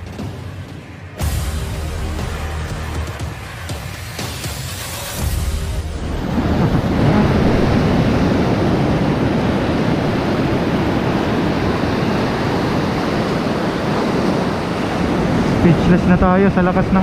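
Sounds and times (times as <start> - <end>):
sea surf breaking over rocks: 3.1 - 17.0.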